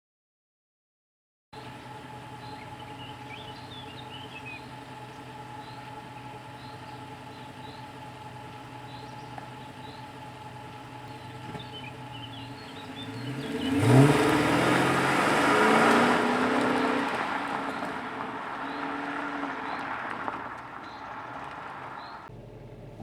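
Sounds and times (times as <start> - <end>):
car engine revving: 1.6 - 23.0.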